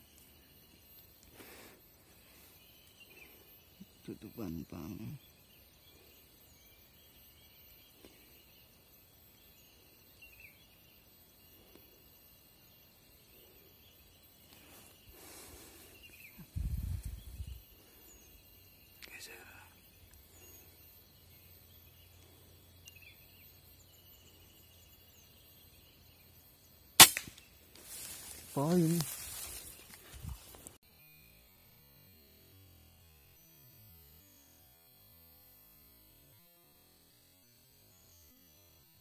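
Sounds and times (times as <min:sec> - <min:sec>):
high insect hum: 0:00.0 - 0:39.0.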